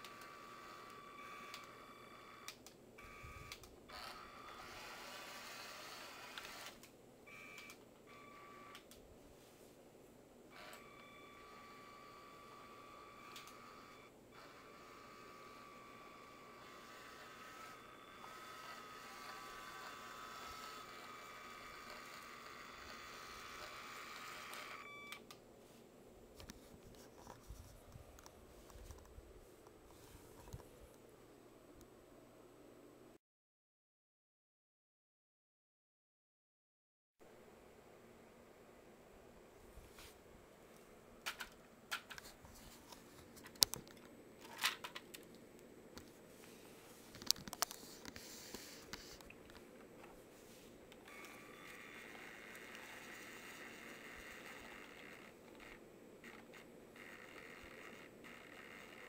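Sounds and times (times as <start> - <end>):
faint high-pitched whine: 0.0 - 33.2, 37.2 - 59.0.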